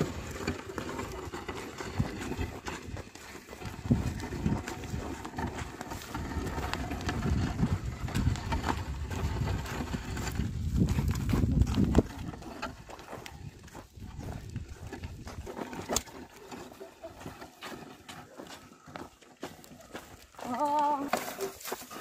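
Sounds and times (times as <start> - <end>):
footsteps on stony soil: 0.0 - 22.0
hooves on stony soil: 0.0 - 22.0
plough dragging through earth: 0.0 - 22.0.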